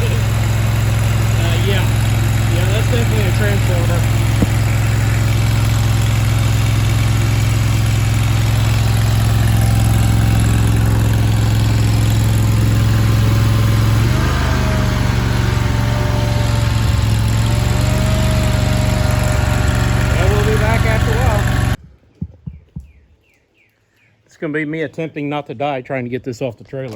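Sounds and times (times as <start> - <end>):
engine running steadily: 0.0 - 21.8
thin whine: 0.0 - 21.8.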